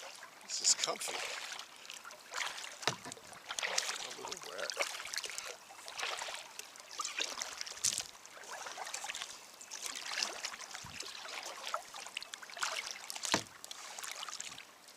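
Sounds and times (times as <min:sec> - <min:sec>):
kayak paddle splashing in water: 0:00.0 - 0:14.9
water dripping and trickling: 0:00.0 - 0:14.9.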